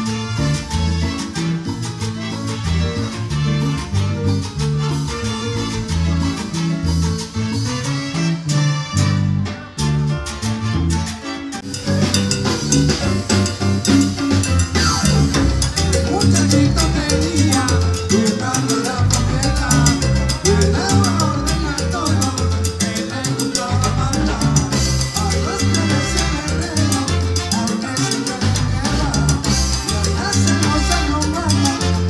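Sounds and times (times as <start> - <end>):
horns: 0.0 - 21.9, 24.1 - 32.0
congas and timbales: 0.0 - 32.0
electric bass line: 0.0 - 32.0
keyboard: 0.0 - 32.0.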